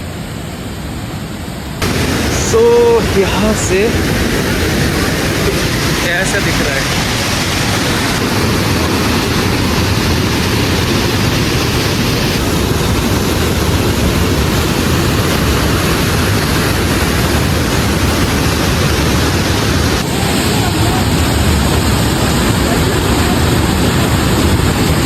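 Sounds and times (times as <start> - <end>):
water rushing through canyon: 1.0 - 25.0.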